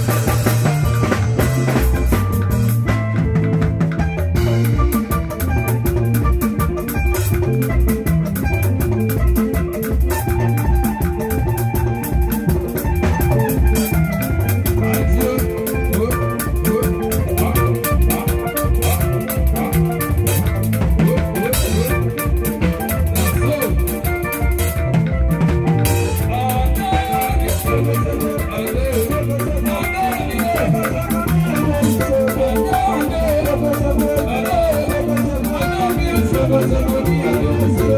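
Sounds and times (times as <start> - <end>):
drum kit with cymbals: 0.0 - 37.9
live band music: 0.0 - 37.9.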